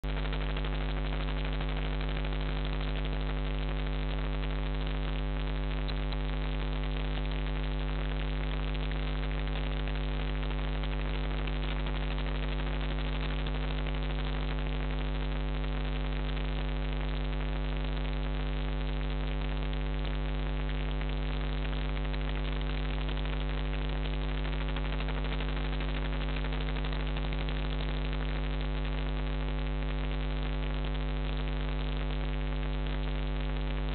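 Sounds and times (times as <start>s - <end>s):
electrical mains hum with hiss: 0.0s - 33.9s.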